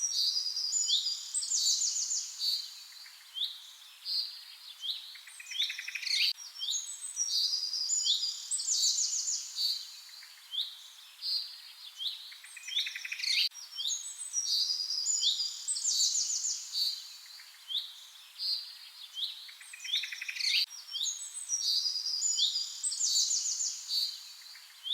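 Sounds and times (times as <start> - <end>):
songbirds chirping and singing: 0.0 - 24.9.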